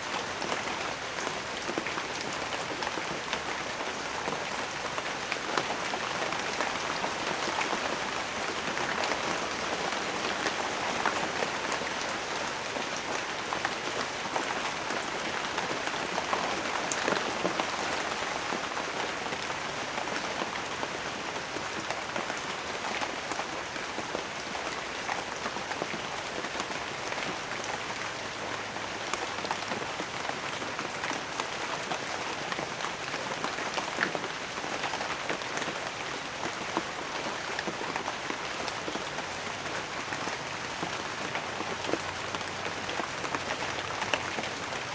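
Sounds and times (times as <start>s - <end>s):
steady rain falling: 0.0s - 44.9s
raindrops pattering on a surface: 0.1s - 44.9s.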